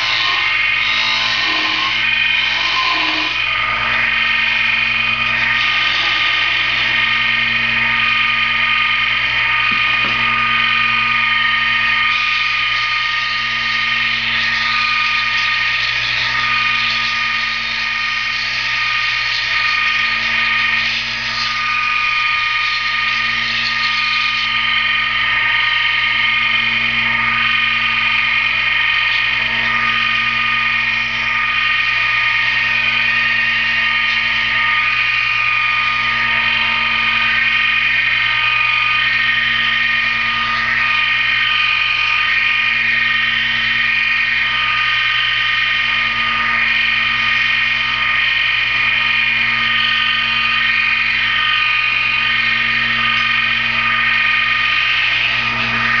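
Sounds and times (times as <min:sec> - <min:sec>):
wood lathe motor whine: 0:00.0 - 0:56.0.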